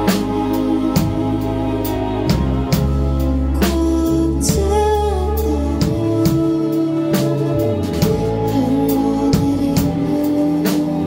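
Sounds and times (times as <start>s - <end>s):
woman singing lead vocal: 0.0s - 2.8s, 3.4s - 11.0s
drum kit beat: 0.0s - 11.0s
electric guitar: 0.0s - 11.0s.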